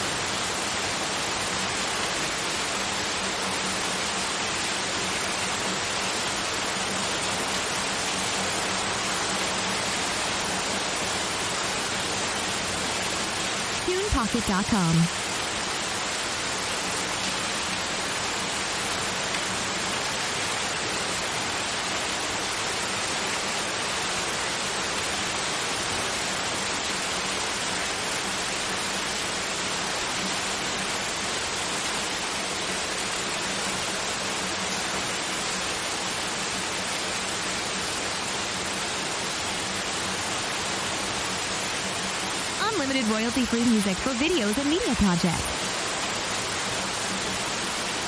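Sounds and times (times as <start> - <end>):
white noise hiss: 0.0 - 48.0.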